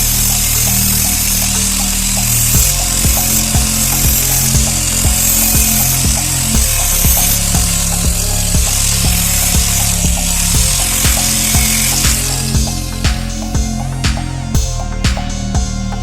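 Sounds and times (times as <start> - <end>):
low bass notes: 0.0 - 16.0
steady music beat: 0.0 - 16.0.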